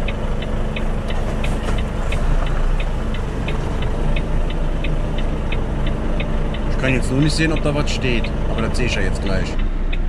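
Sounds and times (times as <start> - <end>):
diesel engine at low revs: 0.0 - 10.0
turn signal ticking: 0.0 - 10.0.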